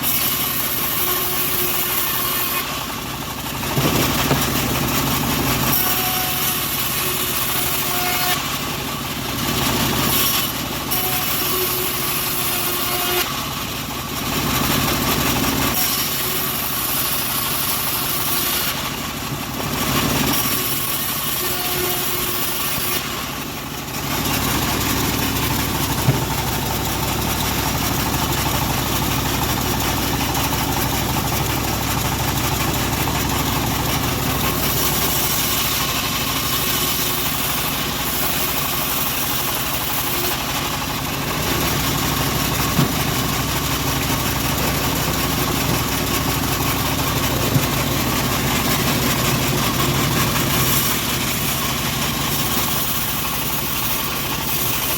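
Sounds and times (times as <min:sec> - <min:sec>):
saw hissing through log: 0:00.0 - 0:13.8, 0:14.4 - 0:54.9
sawmill engine running: 0:00.0 - 0:54.9.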